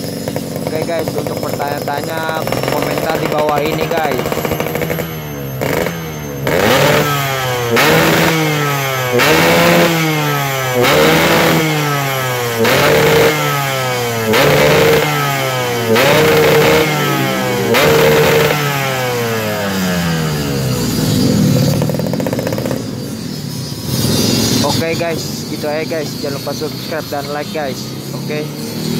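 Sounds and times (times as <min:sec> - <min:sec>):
two-stroke motorcycle revving: 0:00.0 - 0:28.9.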